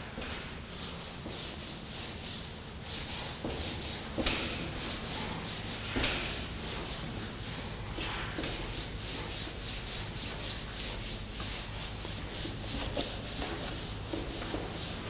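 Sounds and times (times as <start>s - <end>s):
eraser rubbing on whiteboard: 0.2s - 15.0s.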